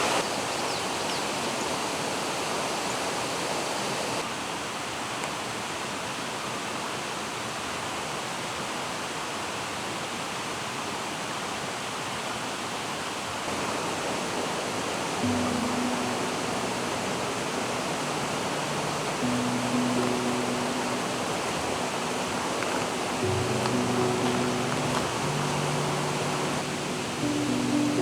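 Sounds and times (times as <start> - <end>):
mountain stream rushing: 0.0 - 28.0.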